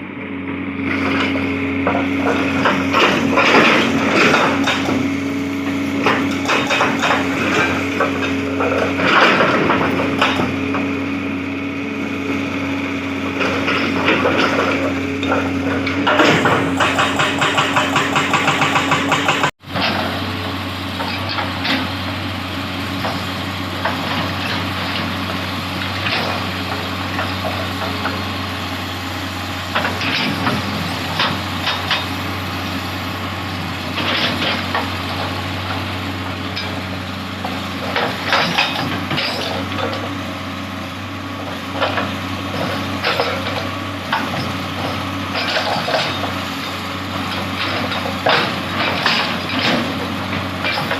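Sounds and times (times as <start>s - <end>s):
excavator diesel engine running: 0.0s - 50.9s
hydraulic breaker hammering rock: 0.9s - 22.0s, 22.8s - 28.7s, 29.6s - 40.3s, 41.4s - 50.9s.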